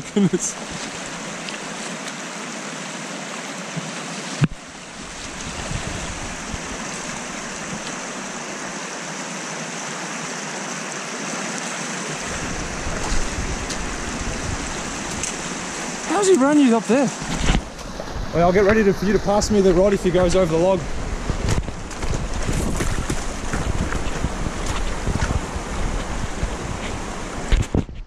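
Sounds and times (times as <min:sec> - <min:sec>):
river rushing over stones: 0:00.0 - 0:27.6.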